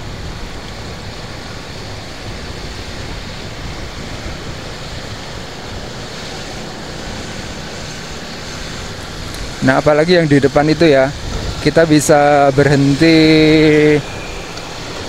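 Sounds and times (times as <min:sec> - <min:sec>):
road and traffic noise: 0:00.0 - 0:15.0
wind on microphone: 0:00.0 - 0:15.0.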